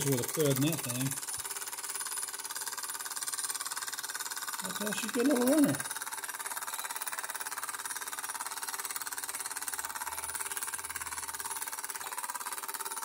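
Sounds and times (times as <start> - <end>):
toy steam engine exhaust beats: 0.0 - 13.0.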